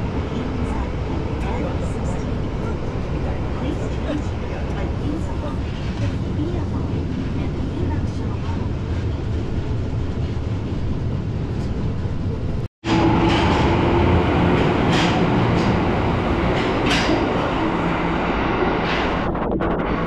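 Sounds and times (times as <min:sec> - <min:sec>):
train car rumbling: 0:00.0 - 0:20.0
train passing platform: 0:00.0 - 0:20.0.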